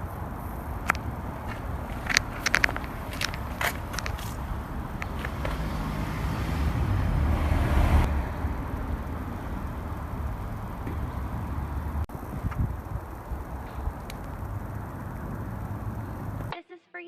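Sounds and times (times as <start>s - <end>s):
low vehicle rumble: 0.0s - 16.5s.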